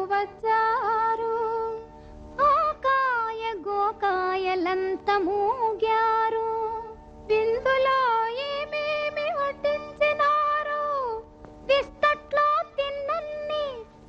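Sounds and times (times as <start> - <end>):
woman singing: 0.0 - 13.9.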